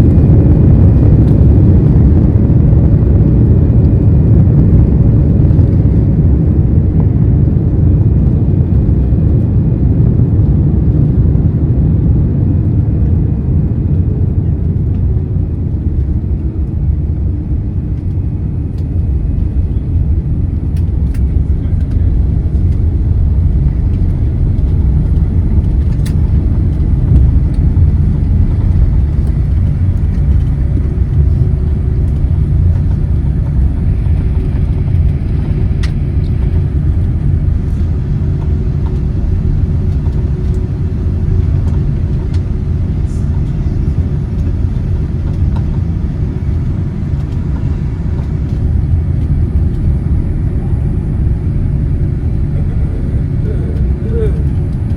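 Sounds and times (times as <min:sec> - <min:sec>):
vehicle interior rumble: 0:00.0 - 0:54.9.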